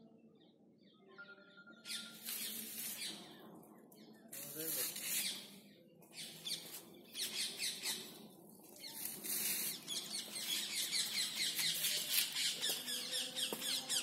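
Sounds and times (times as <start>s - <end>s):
chorus of bird calls: 0.0s - 14.0s.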